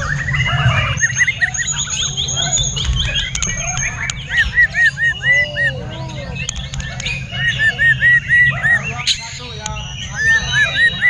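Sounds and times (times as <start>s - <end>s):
bird singing whistled phrases: 0.0s - 11.0s
other birdsong: 0.0s - 11.0s.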